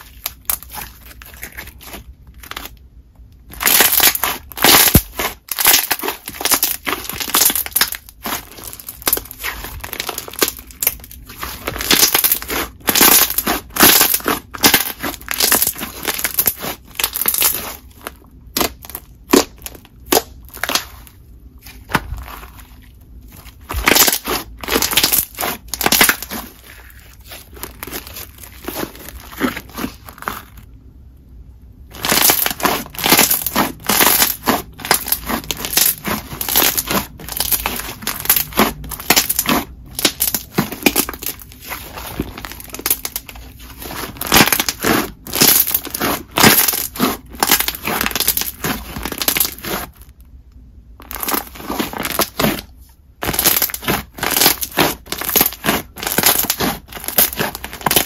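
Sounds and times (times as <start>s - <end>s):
slime squished by hand: 0.0s - 30.8s, 31.9s - 58.0s.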